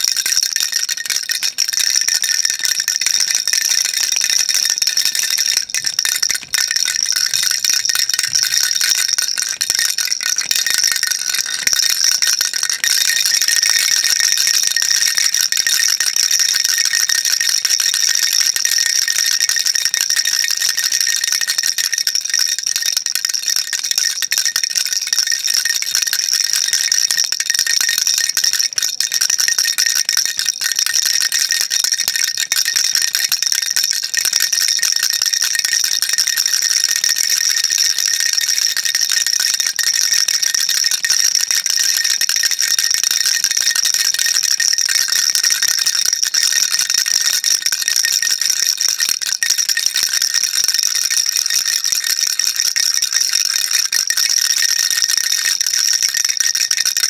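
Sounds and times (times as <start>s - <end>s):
baby rattle shaken: 0.0s - 48.1s.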